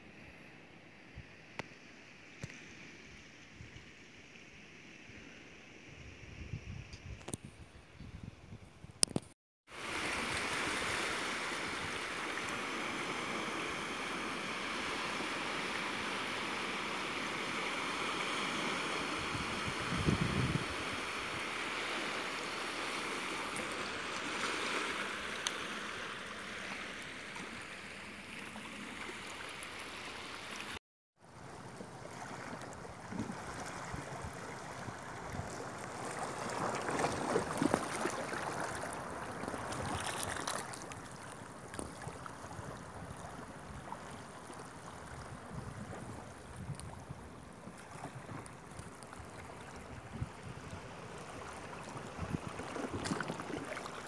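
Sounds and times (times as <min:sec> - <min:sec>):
sea water lapping among rocks: 0:09.7 - 0:30.8, 0:31.6 - 0:54.0.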